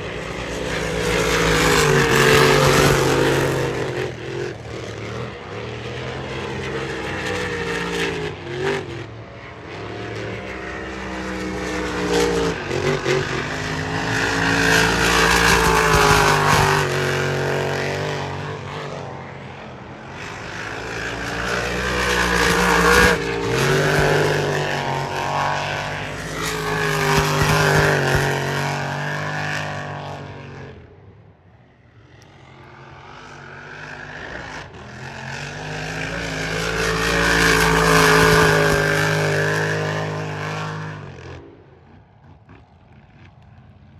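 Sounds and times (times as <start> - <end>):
race boat engines passing: 0.0 - 30.5, 33.0 - 40.9.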